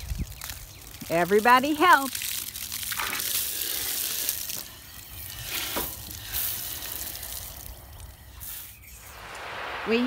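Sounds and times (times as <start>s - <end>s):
hose water spraying onto soil: 0.0s - 10.0s.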